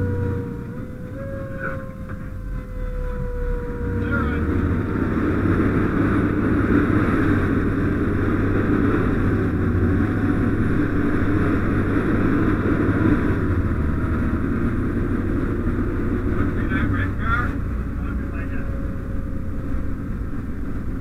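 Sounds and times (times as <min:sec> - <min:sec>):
fire engine driving: 0:00.0 - 0:21.0.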